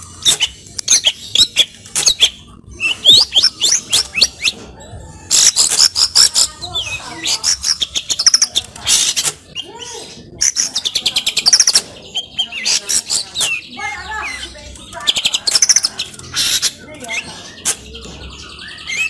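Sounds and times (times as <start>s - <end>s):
bird chattering song: 0.0s - 19.0s.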